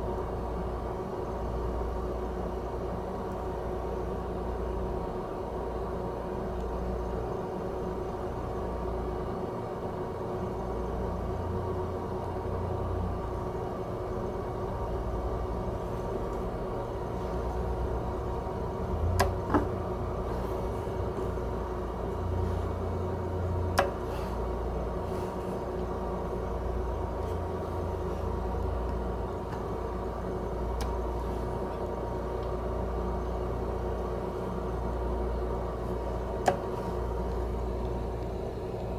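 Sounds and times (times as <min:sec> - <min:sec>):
cooling fan humming: 0:00.0 - 0:38.9.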